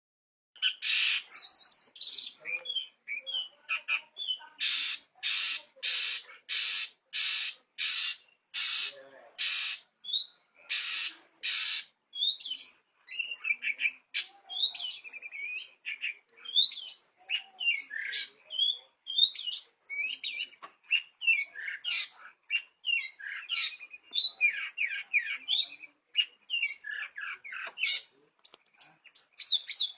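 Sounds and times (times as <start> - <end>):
bird harsh rasping calls: 0.6 - 29.9.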